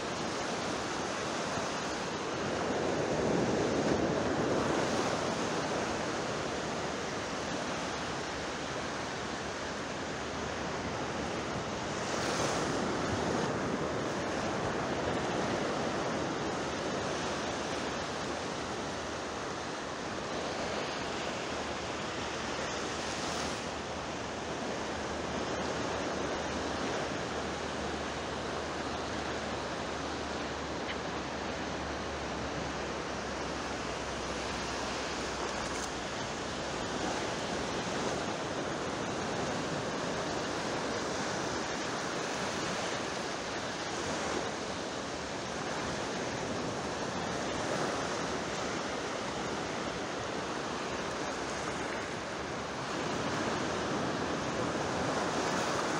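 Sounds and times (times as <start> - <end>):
sea waves: 0.0 - 55.9.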